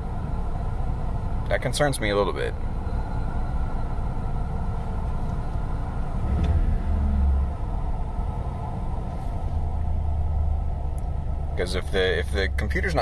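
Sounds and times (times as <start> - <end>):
van engine idling rough: 0.0 - 13.0.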